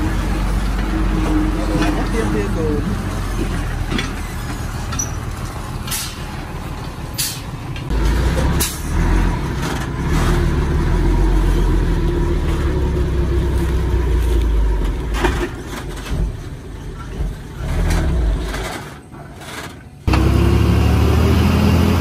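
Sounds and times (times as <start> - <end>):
truck diesel engine running: 0.0 - 17.8.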